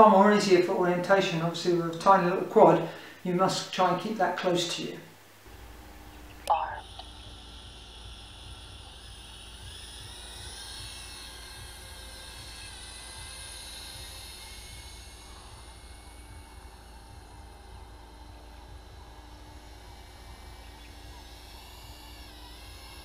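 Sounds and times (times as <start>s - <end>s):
quadcopter motors whining: 0.0s - 3.7s, 5.4s - 23.0s.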